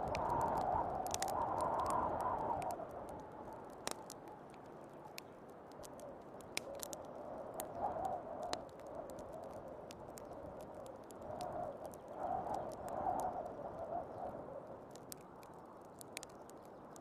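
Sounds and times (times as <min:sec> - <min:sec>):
snowstorm wind blowing: 0:00.0 - 0:04.2, 0:06.8 - 0:16.4
wood fire crackling and popping: 0:00.0 - 0:17.0.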